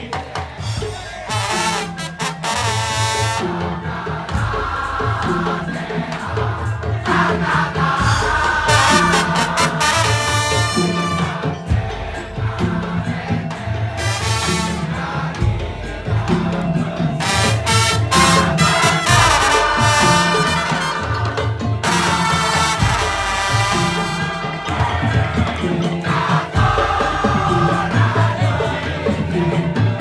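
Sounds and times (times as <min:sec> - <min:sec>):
drums and percussion beat: 0:00.0 - 0:30.0
melody over percussion: 0:00.6 - 0:30.0.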